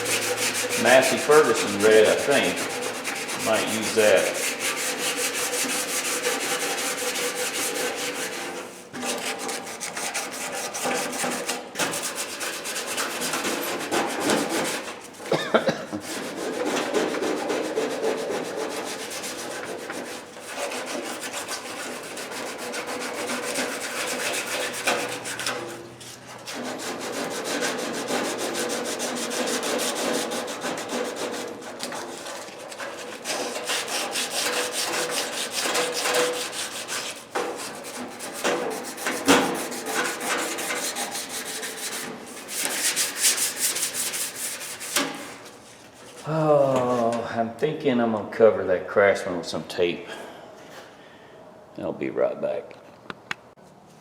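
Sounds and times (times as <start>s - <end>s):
sandpaper rubbing on steel: 0.0s - 15.3s, 16.0s - 46.3s.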